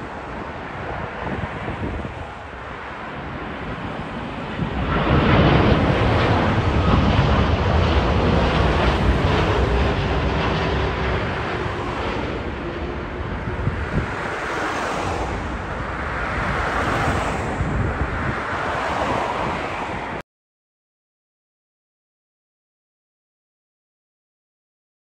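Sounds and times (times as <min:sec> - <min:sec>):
jet airliner rushing noise: 0:00.0 - 0:20.2
wind buffeting microphone: 0:00.0 - 0:20.2.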